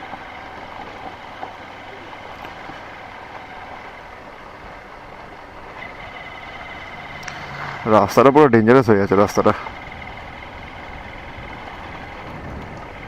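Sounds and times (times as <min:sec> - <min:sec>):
gravel ticking: 0:00.0 - 0:13.0
motorcycle engine running: 0:00.0 - 0:13.0.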